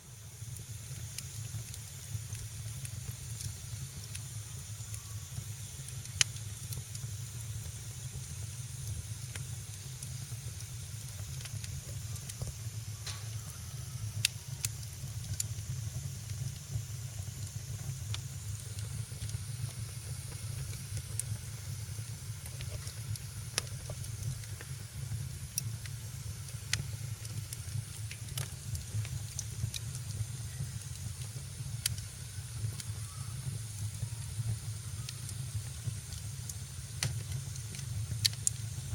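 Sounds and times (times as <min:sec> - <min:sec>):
wood fire crackling: 0:00.1 - 0:38.9.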